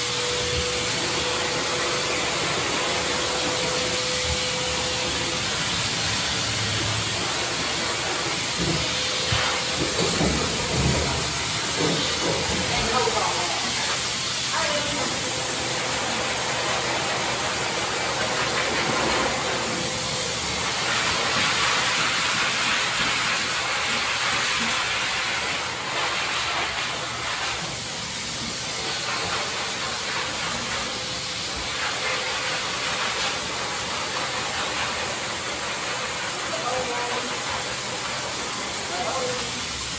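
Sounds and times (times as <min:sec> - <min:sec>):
pet dryer blowing air: 0:00.0 - 0:39.9.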